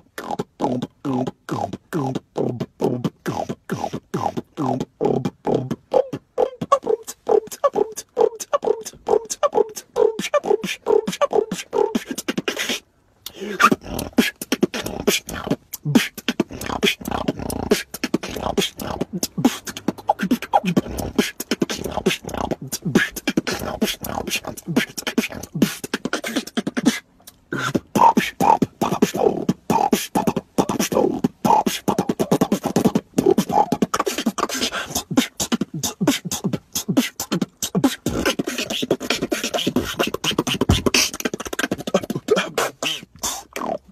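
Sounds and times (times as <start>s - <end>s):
beatboxing: 0.0s - 43.9s.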